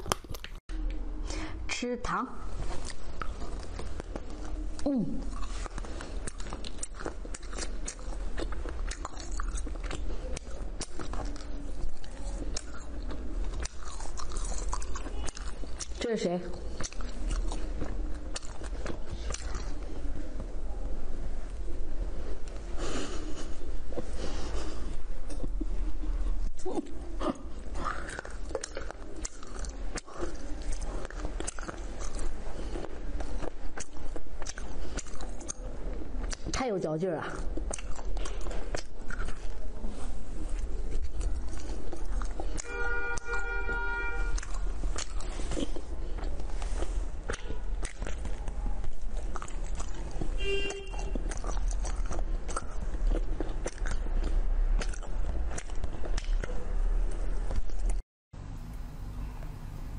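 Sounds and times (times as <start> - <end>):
crunchy candy chewing: 0.0 - 0.6, 2.6 - 20.8, 26.4 - 36.6, 37.2 - 58.0.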